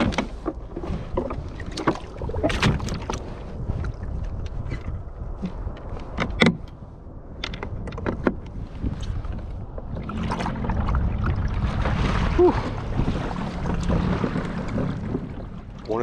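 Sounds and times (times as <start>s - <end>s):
water sloshing against hull: 0.0s - 16.0s
wind rumble: 0.0s - 16.0s.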